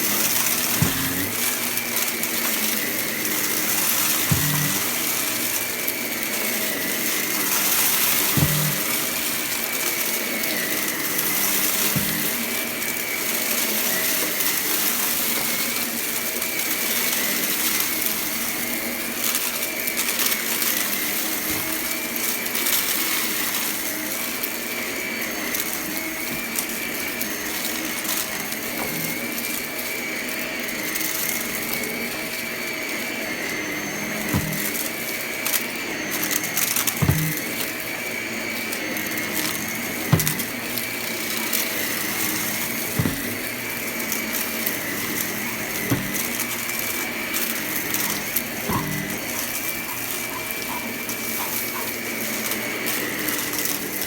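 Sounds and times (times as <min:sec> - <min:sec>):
vacuum cleaner whine: 0:00.0 - 0:54.0.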